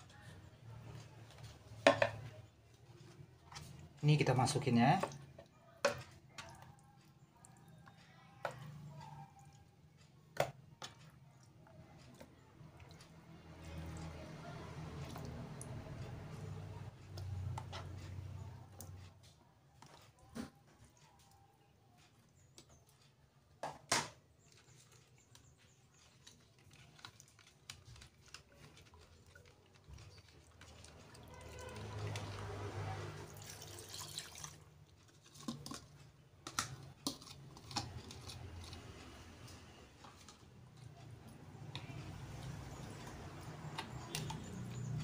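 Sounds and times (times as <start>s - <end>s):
spoon stirring in plastic bowl: 0.1s - 21.4s, 22.0s - 45.0s.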